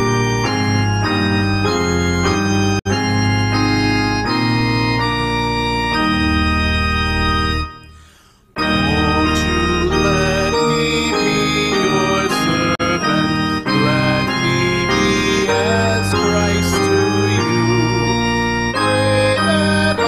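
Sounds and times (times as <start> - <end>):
church organ playing hymn: 0.0 - 20.0.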